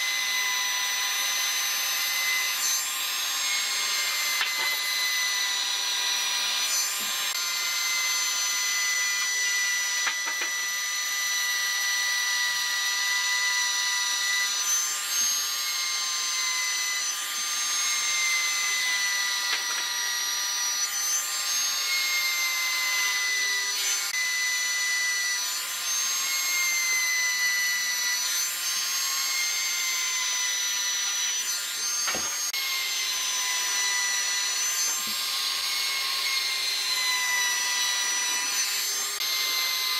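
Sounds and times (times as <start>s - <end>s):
trim router whining: 0.0s - 39.9s.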